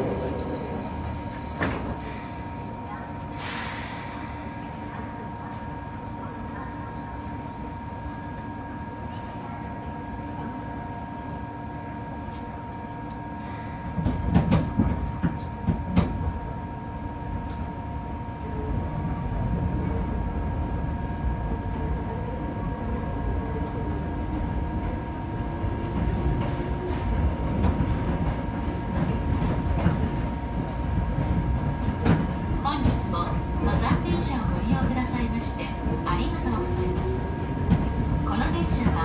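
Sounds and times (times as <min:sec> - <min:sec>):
train rumbling on track: 0:00.0 - 0:39.0.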